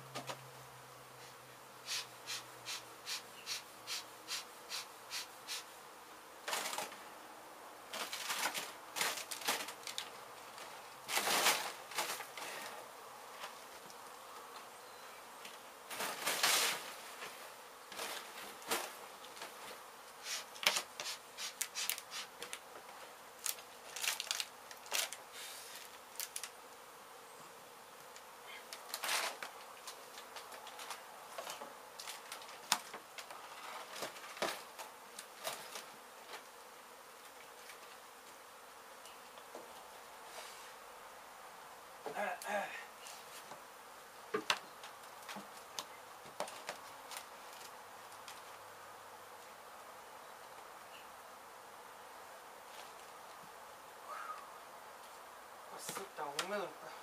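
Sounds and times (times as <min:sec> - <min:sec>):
bees buzzing: 0:00.3 - 0:57.0.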